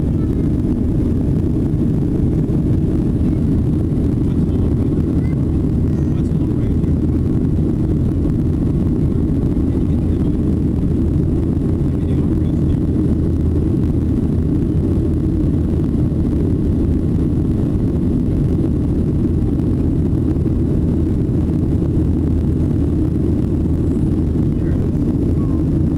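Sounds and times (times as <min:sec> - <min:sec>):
jet engines low rumble: 0:00.0 - 0:25.9
rushing air: 0:00.0 - 0:25.9.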